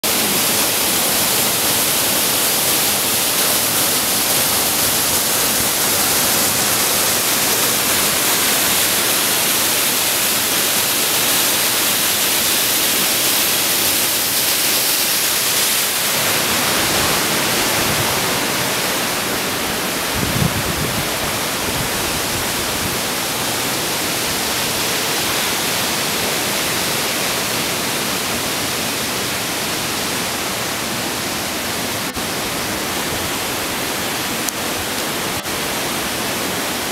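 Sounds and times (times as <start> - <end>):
water rushing through gorge: 0.0 - 36.9.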